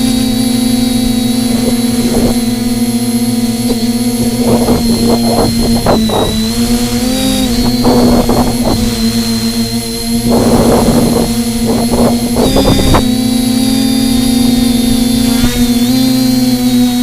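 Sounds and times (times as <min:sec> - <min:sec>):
electric propeller motor humming: 0:00.0 - 0:17.0
wind buffeting microphone: 0:00.0 - 0:17.0.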